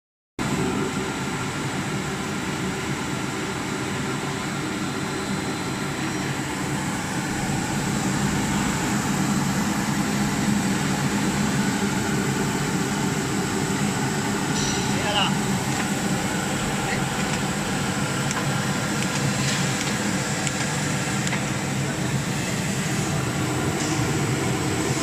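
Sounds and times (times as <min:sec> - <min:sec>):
printing machine humming: 0:00.4 - 0:25.0.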